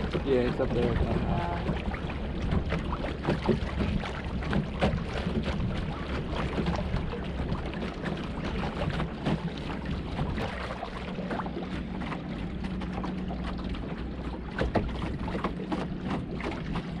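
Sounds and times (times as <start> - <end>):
water slapping against boat hull: 0.0 - 17.0
wind buffeting microphone: 0.0 - 17.0.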